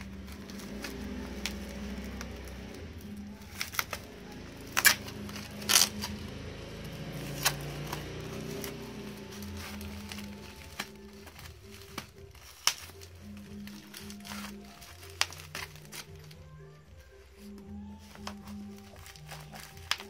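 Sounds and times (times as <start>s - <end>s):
plastic wrap crinkling: 0.0s - 20.0s
quiet background music: 0.0s - 20.0s.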